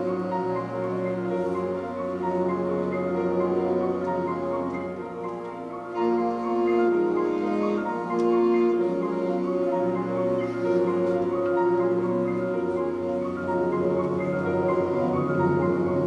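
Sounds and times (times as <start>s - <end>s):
wind band playing chords: 0.0s - 16.0s.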